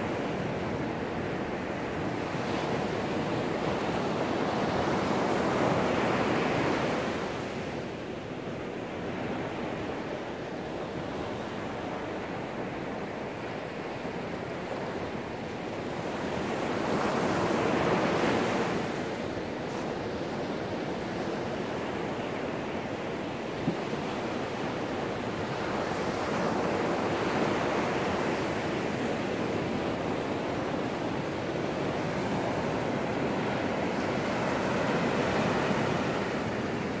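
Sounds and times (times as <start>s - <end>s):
ocean surf breaking on beach: 0.0s - 37.0s.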